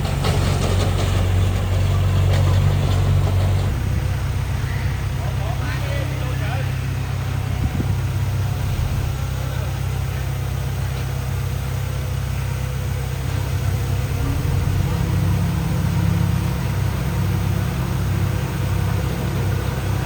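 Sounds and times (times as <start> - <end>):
heavy machinery diesel engine: 0.0 - 20.0.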